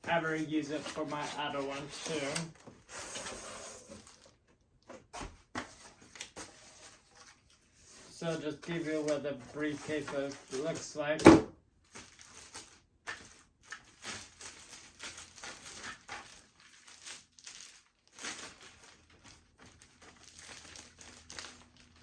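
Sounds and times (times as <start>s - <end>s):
packing material crinkling: 0.0s - 4.5s, 5.9s - 10.9s, 11.8s - 22.0s.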